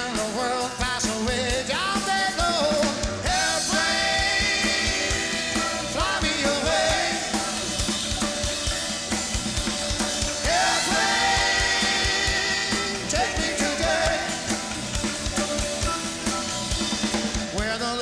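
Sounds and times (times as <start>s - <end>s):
electric guitars: 0.0s - 17.9s
drum kit beat: 0.0s - 18.0s
keyboards: 0.0s - 18.0s.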